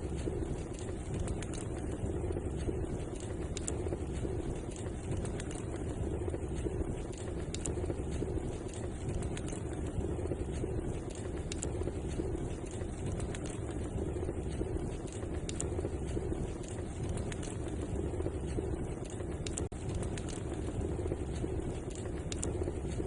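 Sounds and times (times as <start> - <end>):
fire crackling and popping: 0.0 - 23.0
fireplace fire roaring: 0.0 - 23.0.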